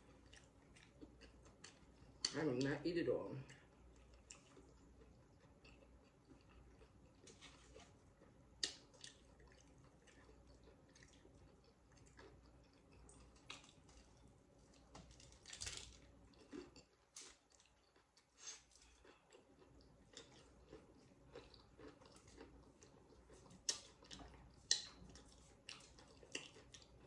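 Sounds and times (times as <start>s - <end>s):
soft chewing: 0.0s - 27.0s.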